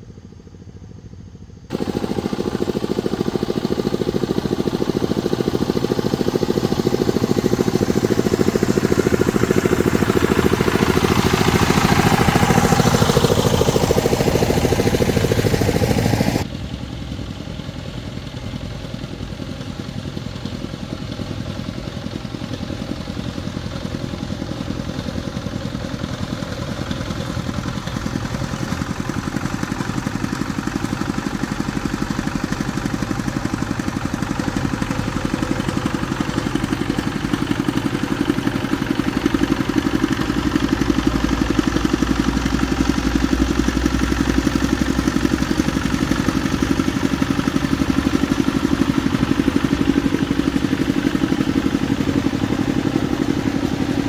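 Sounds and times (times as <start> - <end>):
motor-driven machine pulsing: 1.7 - 16.5, 19.9 - 54.0.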